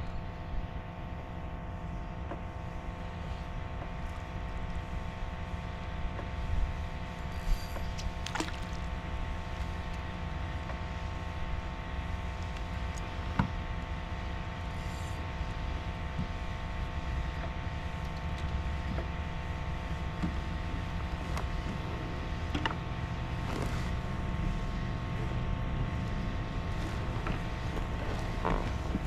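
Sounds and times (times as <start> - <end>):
boat motor humming: 0.0 - 29.0.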